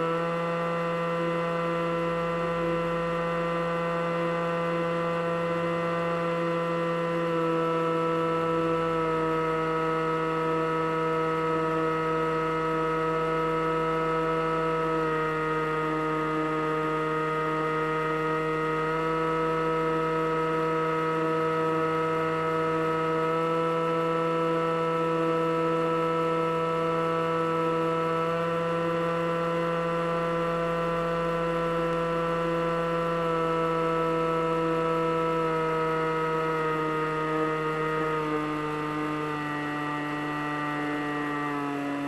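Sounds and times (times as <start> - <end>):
model plane motor whine: 0.0 - 42.0.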